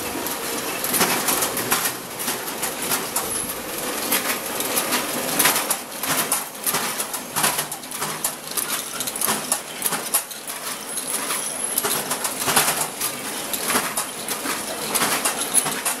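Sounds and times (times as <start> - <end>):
eggs clattering on conveyor: 0.0 - 16.0.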